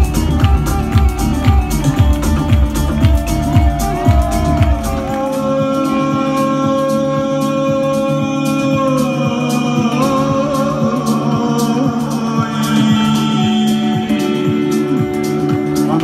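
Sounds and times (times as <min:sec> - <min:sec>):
live band music: 0:00.0 - 0:16.0
person singing: 0:00.0 - 0:16.0.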